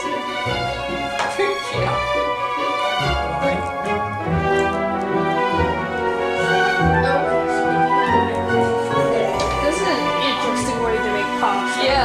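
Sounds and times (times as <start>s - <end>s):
orchestral music: 0.0s - 12.0s.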